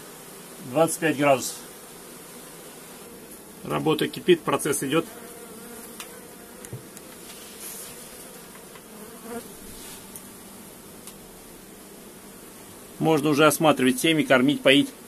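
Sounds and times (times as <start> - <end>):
bees buzzing past: 0.0 - 15.0
honeybees humming: 0.0 - 15.0.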